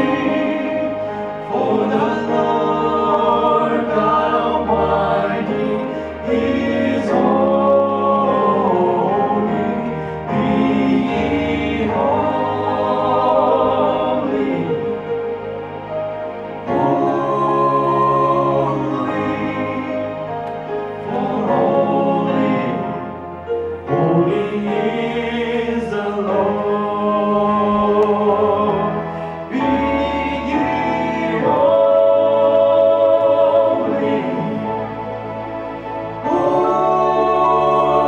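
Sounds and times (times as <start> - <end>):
male vocal group singing gospel: 0.0 - 15.2, 16.6 - 20.3, 21.0 - 23.2, 23.8 - 35.5, 36.2 - 38.0.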